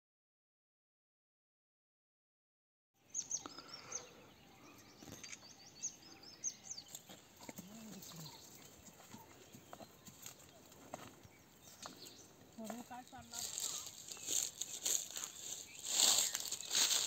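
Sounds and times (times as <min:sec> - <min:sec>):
small birds chirping: 0:03.0 - 0:17.0.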